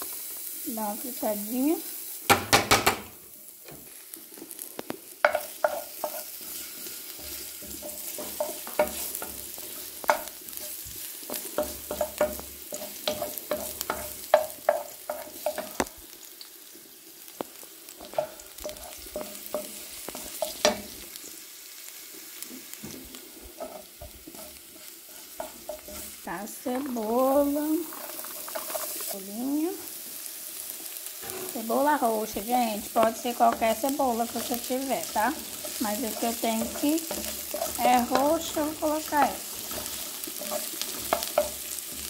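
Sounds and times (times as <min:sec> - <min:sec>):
garlic sizzling in oil: 0:00.0 - 0:42.0
wooden spoon scraping a pan: 0:03.7 - 0:15.9, 0:18.0 - 0:21.2, 0:22.4 - 0:30.0, 0:30.7 - 0:42.0.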